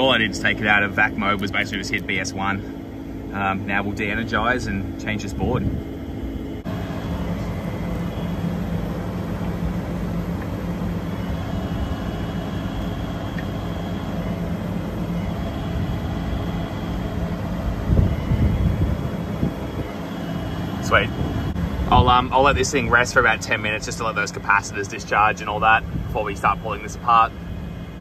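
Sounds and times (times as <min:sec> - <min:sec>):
vacuum pump humming: 0:00.0 - 0:28.0.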